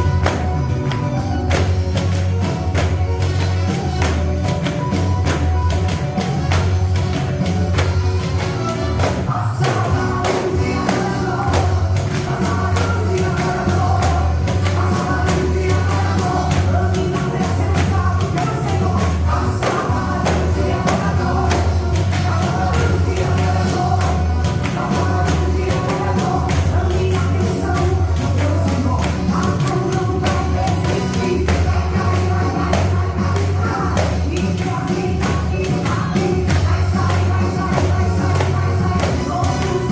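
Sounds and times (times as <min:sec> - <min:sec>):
gospel music with heavy bass: 0:00.0 - 0:39.9
pandeiro jingles and drum strokes: 0:00.0 - 0:39.9
people singing: 0:00.0 - 0:39.9.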